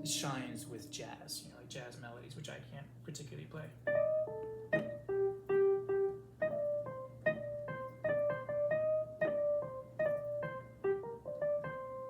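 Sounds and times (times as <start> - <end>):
electric piano melody: 0.0 - 1.9, 3.8 - 12.0.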